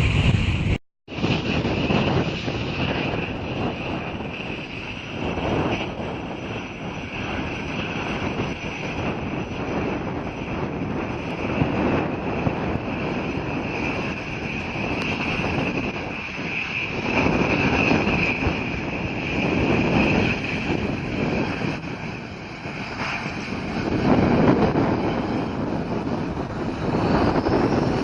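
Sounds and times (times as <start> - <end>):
airliner engines running: 0.0 - 28.0.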